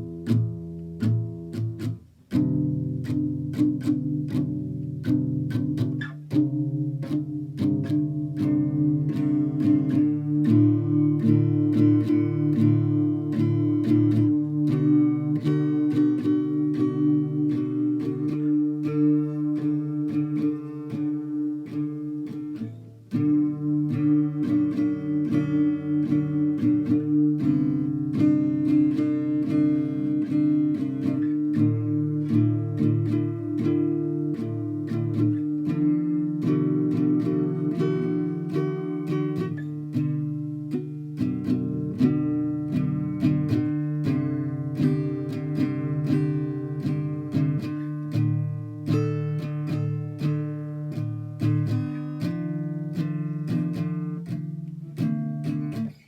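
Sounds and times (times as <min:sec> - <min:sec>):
plucked notes: 0:00.0 - 0:56.0.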